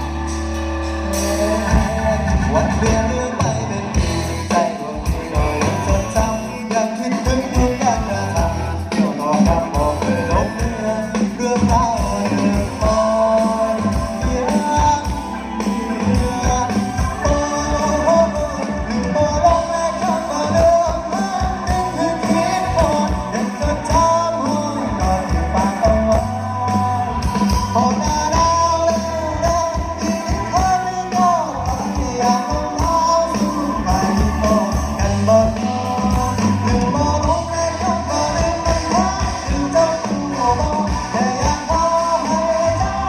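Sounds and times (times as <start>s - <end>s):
band playing a song with vocals: 0.0s - 43.0s.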